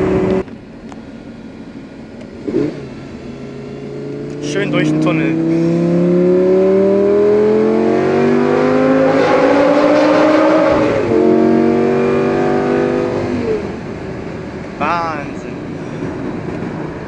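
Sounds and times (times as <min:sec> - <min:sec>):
car engine accelerating in tunnel: 0:02.2 - 0:17.0.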